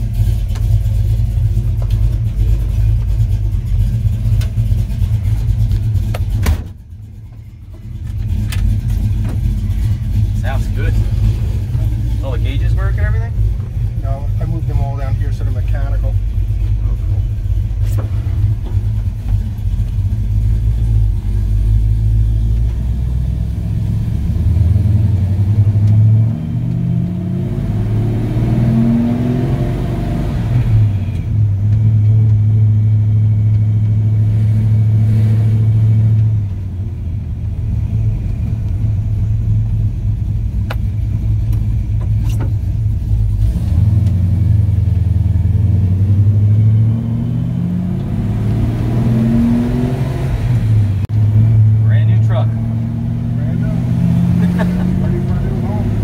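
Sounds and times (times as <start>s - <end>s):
v eight engine revving: 7.8s - 56.0s.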